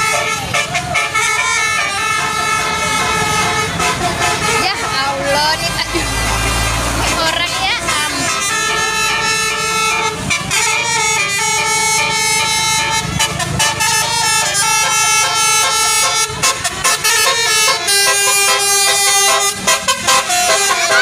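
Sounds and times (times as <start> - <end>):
musical air horns playing a tune: 0.0 - 21.0.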